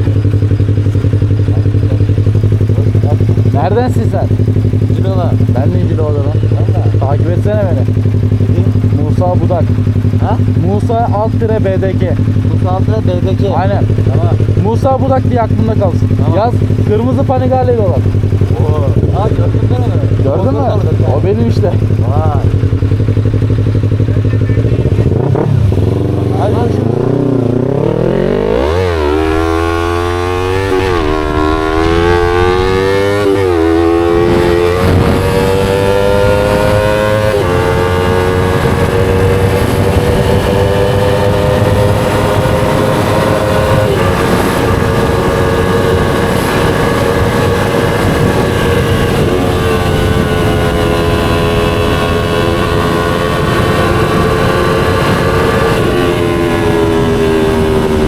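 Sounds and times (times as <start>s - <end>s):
motorcycle accelerating and shifting: 0.0s - 58.0s.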